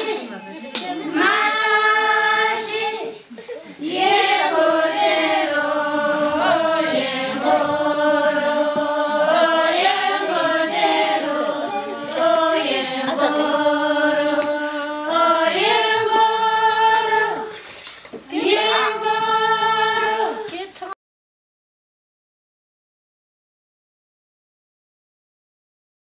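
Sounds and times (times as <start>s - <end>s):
women singing in unison: 0.0s - 21.0s.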